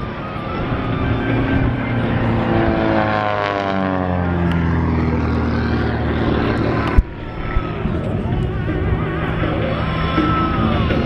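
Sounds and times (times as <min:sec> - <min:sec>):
propeller airplane engine passing: 0:00.0 - 0:11.0.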